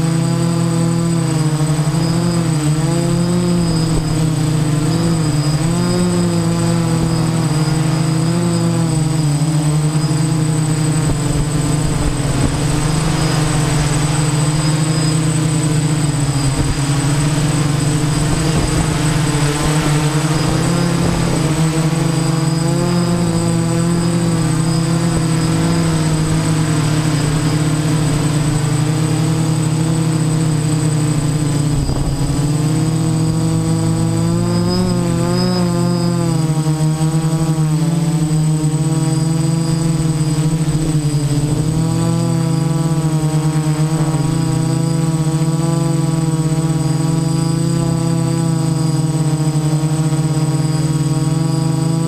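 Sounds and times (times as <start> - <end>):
drone motors buzzing: 0.0 - 52.0
steady high whine: 0.0 - 52.0.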